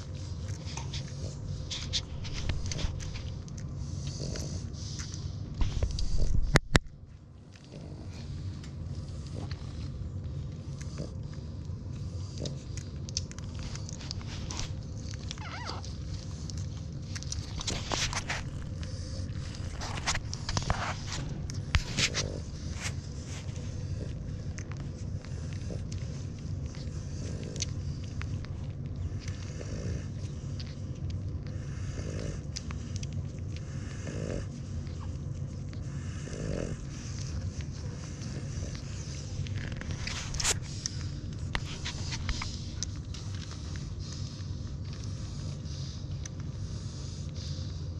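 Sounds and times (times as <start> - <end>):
dog snoring: 0.0 - 6.6, 7.6 - 47.9
puppies suckling: 0.0 - 47.9
steady low rumble: 0.0 - 47.9.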